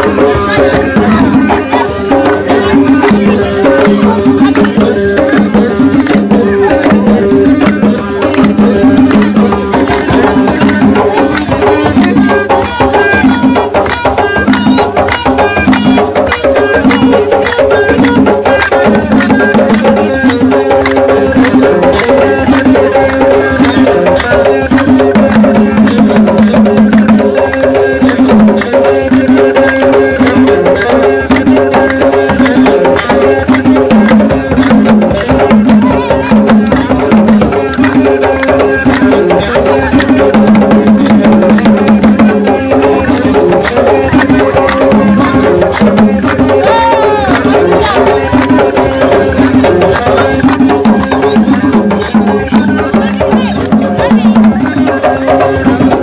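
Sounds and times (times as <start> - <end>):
drums in a fast rhythm: 0.0 - 56.0
voices: 0.0 - 56.0.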